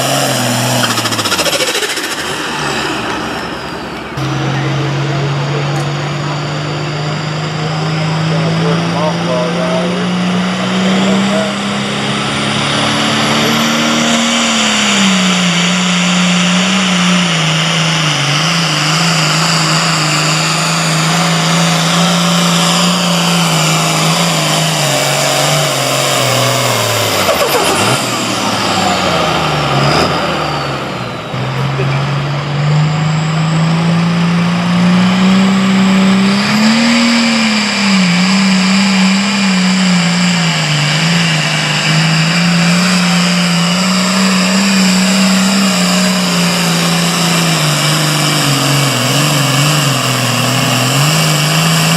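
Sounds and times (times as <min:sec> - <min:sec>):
diesel engine running under load: 0:00.0 - 0:51.9
high whine: 0:00.0 - 0:51.9.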